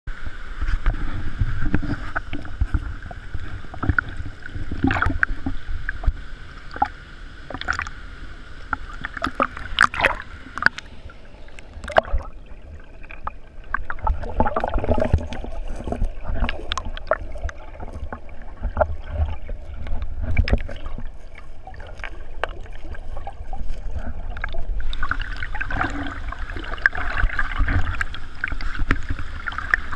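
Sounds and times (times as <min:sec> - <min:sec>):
muffled underwater sound: 0:00.1 - 0:29.9
water sloshing and splashing: 0:00.7 - 0:08.0, 0:08.7 - 0:29.9.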